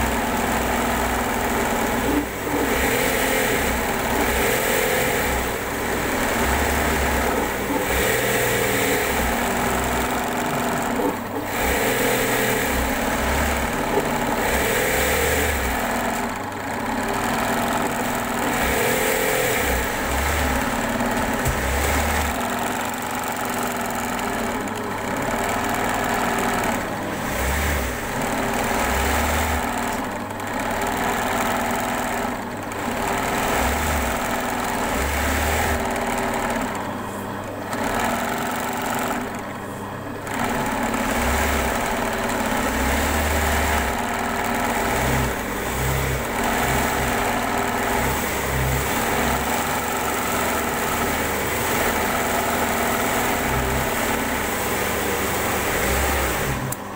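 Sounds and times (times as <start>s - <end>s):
electric sewing machine running: 0.0s - 56.9s.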